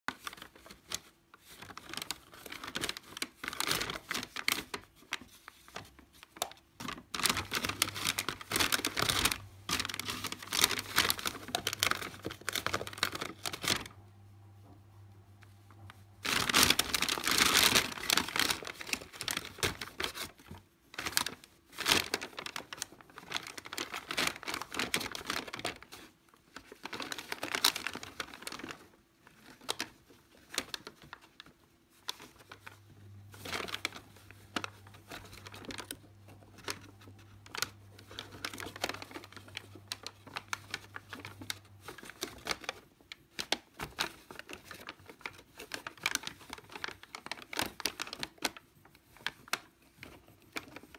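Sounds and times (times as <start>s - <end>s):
paper bag crinkling and rustling: 0.1s - 50.9s.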